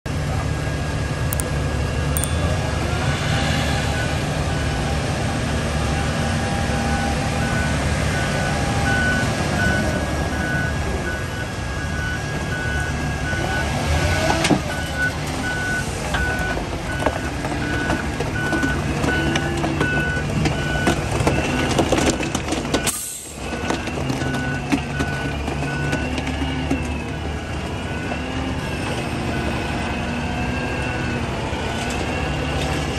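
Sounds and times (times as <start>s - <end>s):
truck engine rumbling: 0.1s - 32.9s
truck reversing alarm beeping: 0.6s - 32.7s.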